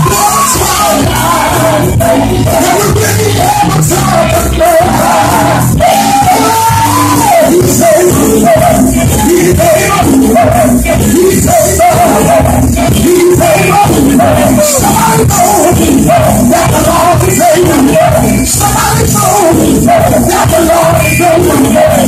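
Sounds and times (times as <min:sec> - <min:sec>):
drums: 0:00.0 - 0:22.0
keyboard: 0:00.0 - 0:22.0
voices singing gospel: 0:00.0 - 0:22.0.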